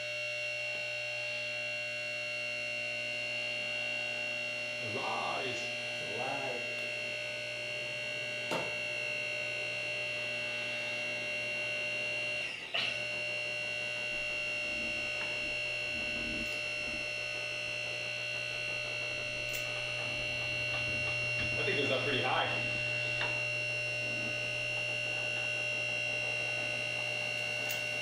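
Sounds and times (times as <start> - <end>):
hydraulic pump humming and whining: 0.0 - 28.0.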